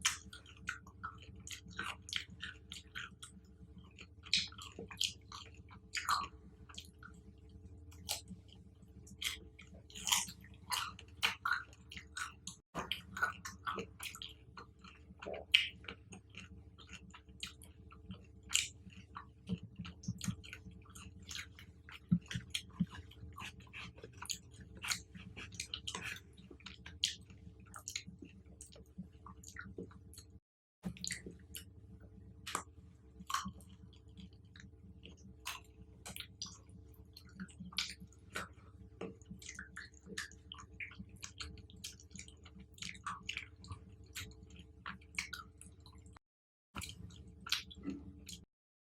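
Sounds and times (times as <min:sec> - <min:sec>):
close chewing with wet smacks: 0:00.0 - 0:31.8, 0:32.4 - 0:46.2, 0:46.8 - 0:48.5.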